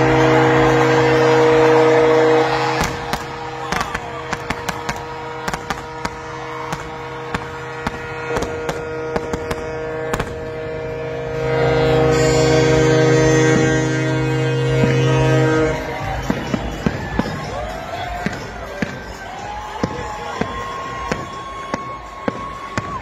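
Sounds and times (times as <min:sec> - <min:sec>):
steady horn tone: 0:00.0 - 0:23.0
fireworks bangs and crackles: 0:00.1 - 0:10.9, 0:13.4 - 0:23.0.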